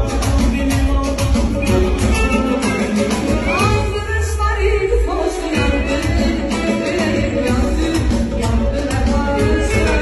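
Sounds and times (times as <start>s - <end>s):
synthesizer keyboard pop music: 0.0s - 10.0s.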